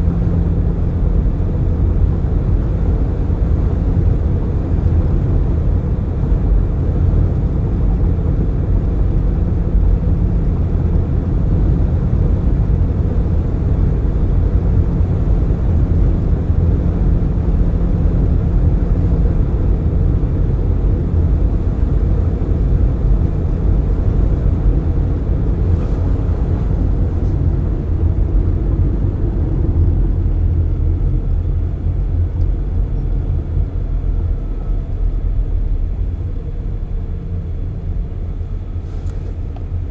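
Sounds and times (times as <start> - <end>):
car engine: 0.0 - 39.9.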